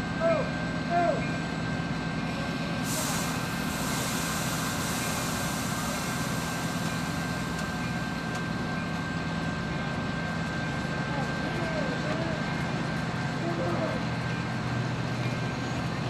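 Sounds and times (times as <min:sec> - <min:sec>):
diesel locomotive droning: 0:00.0 - 0:16.0.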